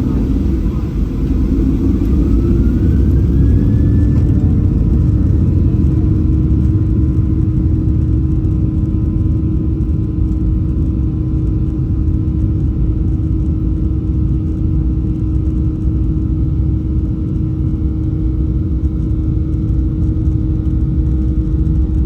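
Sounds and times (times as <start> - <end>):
jet engine low rumble: 0.0 - 22.0
steady humming tone: 0.0 - 22.0.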